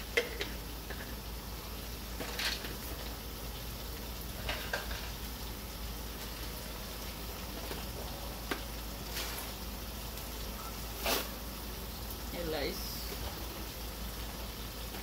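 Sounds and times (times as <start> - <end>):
curry sizzling in oil: 0.0 - 15.0.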